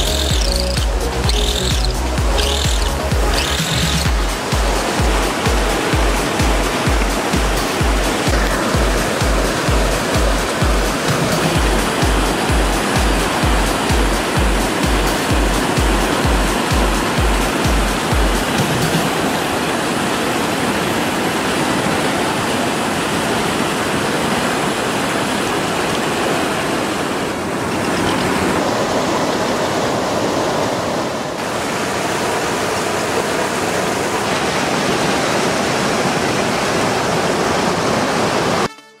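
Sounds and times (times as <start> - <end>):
stream water rushing over rocks: 0.0 - 38.7.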